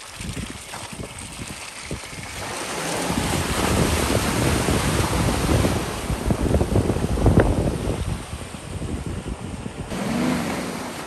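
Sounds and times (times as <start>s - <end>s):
tyre and wind noise driving: 0.0s - 11.0s.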